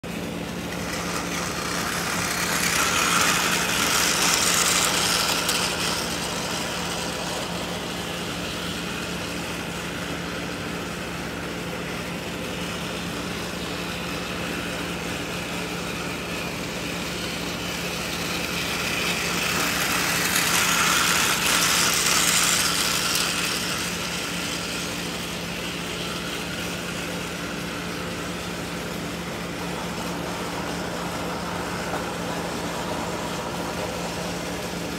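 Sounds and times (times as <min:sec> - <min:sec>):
toy train motors whirring: 0:00.0 - 0:34.9.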